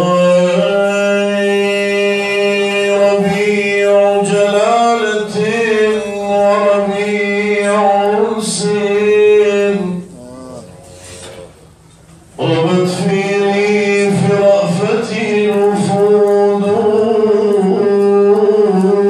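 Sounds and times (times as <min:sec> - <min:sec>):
man chanting unaccompanied: 0:00.0 - 0:11.6, 0:12.4 - 0:19.0.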